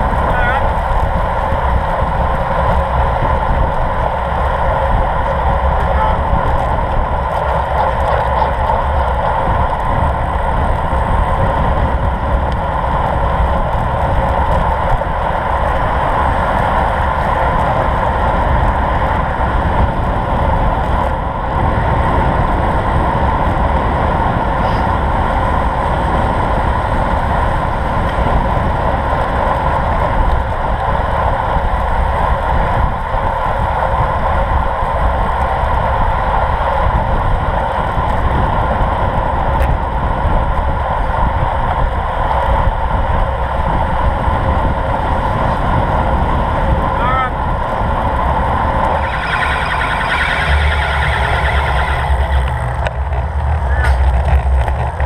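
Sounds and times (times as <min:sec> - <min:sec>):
bicycle tyre noise: 0:00.0 - 0:55.0
wind buffeting microphone: 0:00.0 - 0:55.0
wind rush: 0:00.0 - 0:55.0.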